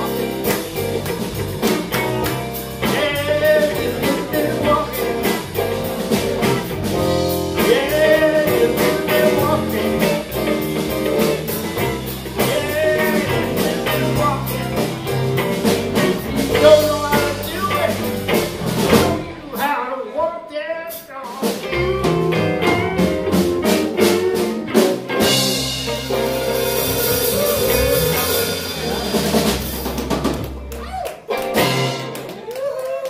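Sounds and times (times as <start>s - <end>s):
electric bass: 0.0s - 19.6s, 21.6s - 32.3s
electric guitars: 0.0s - 19.6s, 21.5s - 33.0s
drum kit: 0.0s - 19.8s, 20.9s - 32.7s.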